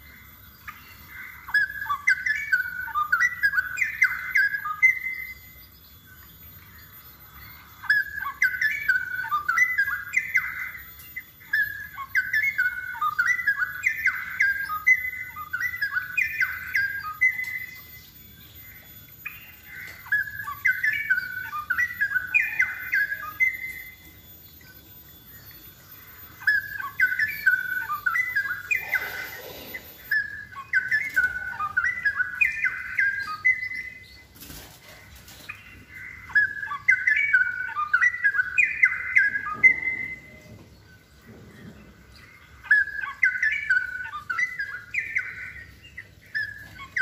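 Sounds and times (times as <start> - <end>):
bird singing warbled phrases: 0.0 - 47.0.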